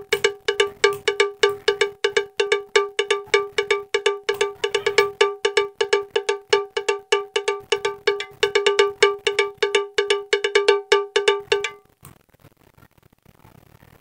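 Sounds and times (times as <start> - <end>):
short ringing notes music: 0.0 - 11.8.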